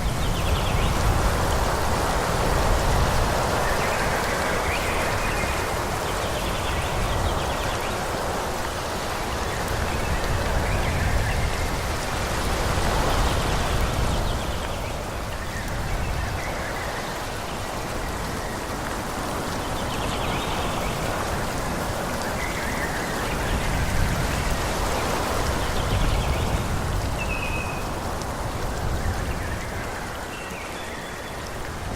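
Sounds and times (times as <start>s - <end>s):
wind blowing through trees: 0.0s - 31.9s.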